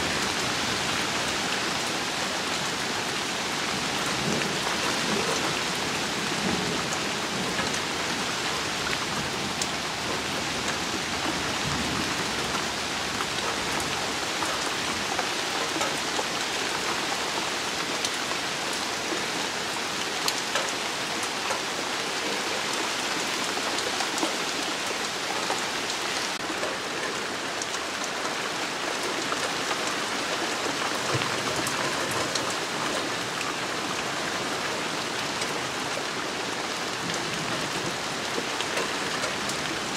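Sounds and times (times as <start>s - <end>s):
rain on pond and foliage: 0.0s - 39.9s.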